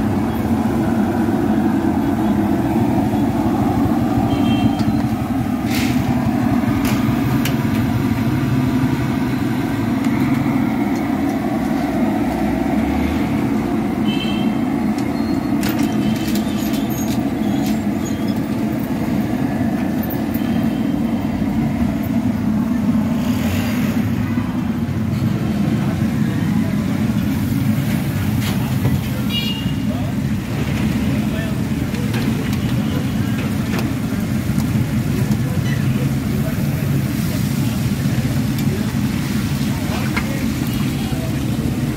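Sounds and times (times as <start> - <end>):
passing traffic: 0.0 - 41.9.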